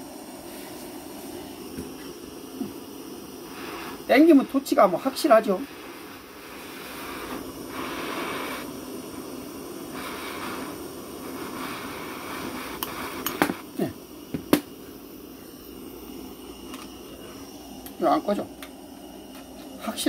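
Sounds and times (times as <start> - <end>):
blow torch flame hissing: 0.0 - 20.0.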